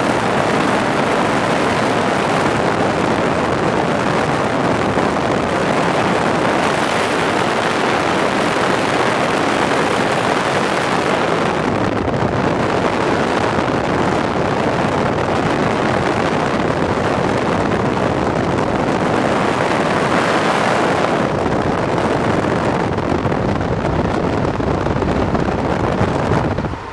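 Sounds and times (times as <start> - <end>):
car road noise: 0.0 - 26.9
wind rushing over microphone: 0.0 - 26.9.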